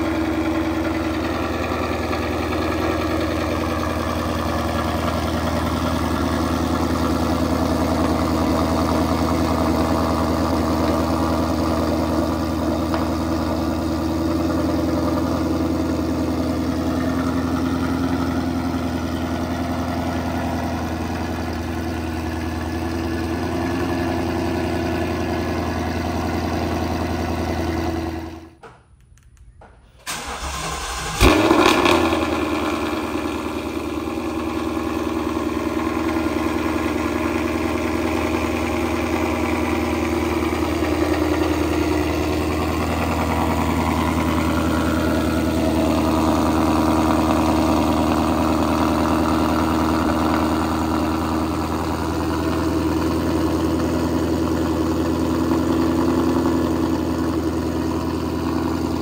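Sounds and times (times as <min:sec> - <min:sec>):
engine revving then idling: 0:00.0 - 0:28.5, 0:30.1 - 0:59.0.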